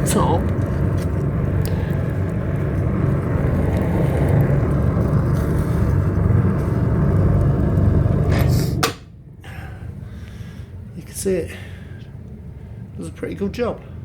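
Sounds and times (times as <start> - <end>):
stove flame rumbling: 0.0 - 14.0.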